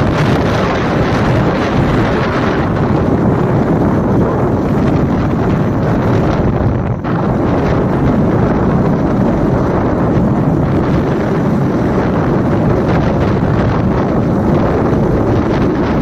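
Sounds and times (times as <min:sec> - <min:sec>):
tyres rumbling on road: 0:00.0 - 0:16.0
wind rushing over microphone: 0:00.0 - 0:16.0.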